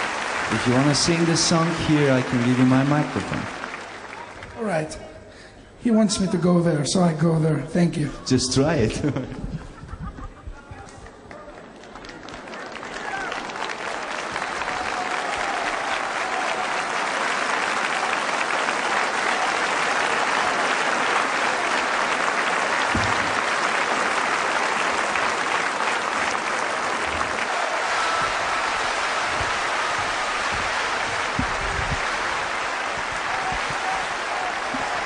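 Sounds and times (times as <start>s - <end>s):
audience applauding: 0.0s - 4.8s, 10.8s - 35.0s.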